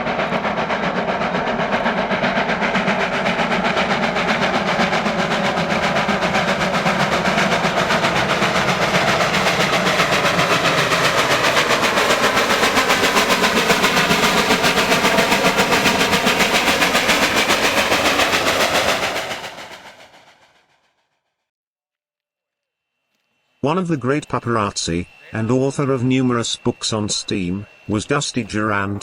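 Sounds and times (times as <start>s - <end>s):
steam locomotive exhaust beats: 0.0s - 20.7s, 23.6s - 29.0s.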